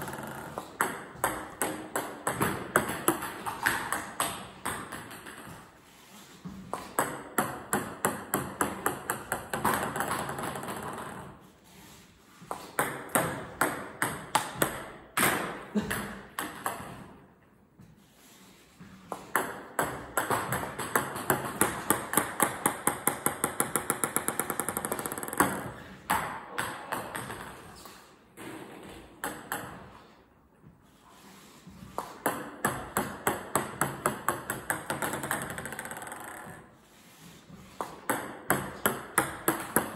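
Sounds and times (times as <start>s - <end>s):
table tennis ball bouncing: 0.0s - 5.8s, 6.4s - 11.4s, 12.3s - 17.4s, 18.9s - 30.2s, 31.8s - 36.8s, 37.5s - 39.9s.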